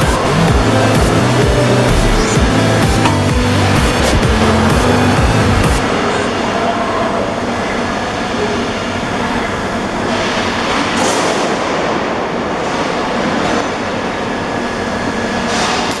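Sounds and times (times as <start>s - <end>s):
welding machinery hiss and rumble: 0.0s - 16.0s.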